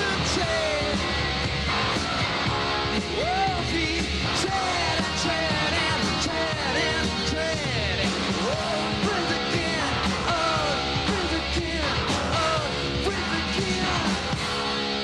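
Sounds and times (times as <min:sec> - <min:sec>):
man singing wordless vocal: 0:00.0 - 0:01.1, 0:03.2 - 0:14.3
drums: 0:00.0 - 0:15.0
electric guitar: 0:00.0 - 0:15.0.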